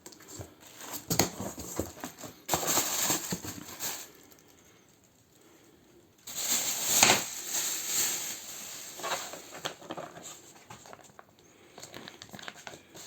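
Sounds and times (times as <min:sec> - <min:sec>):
packaging rustling: 0:00.2 - 0:04.4, 0:06.2 - 0:13.0.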